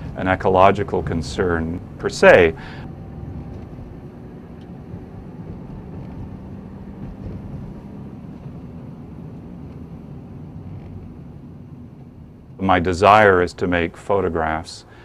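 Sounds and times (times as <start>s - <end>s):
steady low drone: 0.0s - 14.9s.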